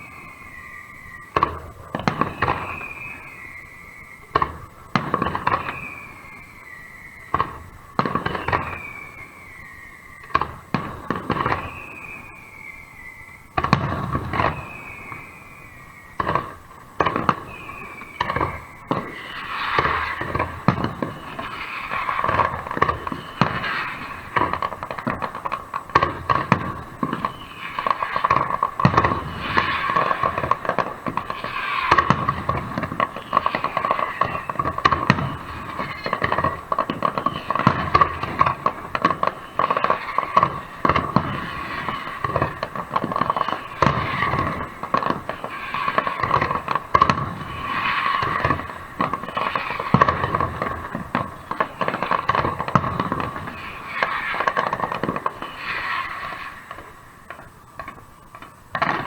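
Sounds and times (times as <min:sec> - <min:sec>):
falling firework whistle: 0:00.0 - 0:59.0
fireworks bursting with sharp bangs: 0:00.0 - 0:59.0
rapid firework crackling: 0:00.0 - 0:59.0.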